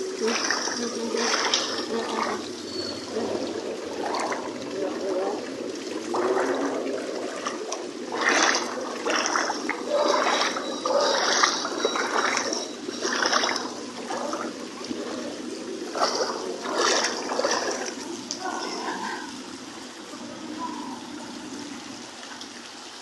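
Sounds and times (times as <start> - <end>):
floodwater running and splashing: 0.0 - 23.0.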